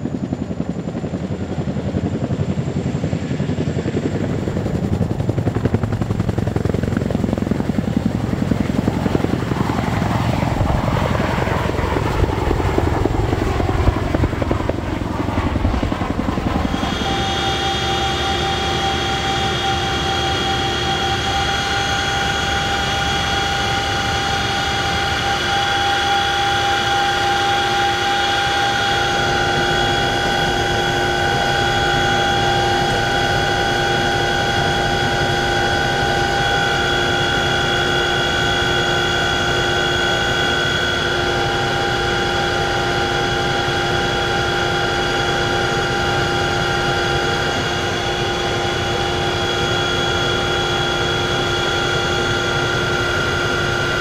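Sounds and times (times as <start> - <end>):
helicopter rotor beat: 0.0 - 54.0
high-pitched turbine whine: 0.0 - 54.0.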